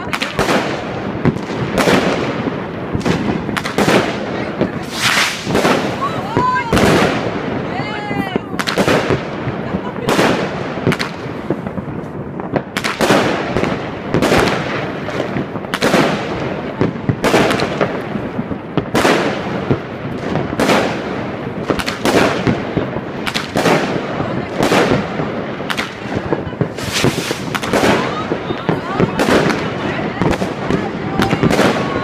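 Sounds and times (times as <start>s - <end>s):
fireworks exploding: 0.0s - 32.0s.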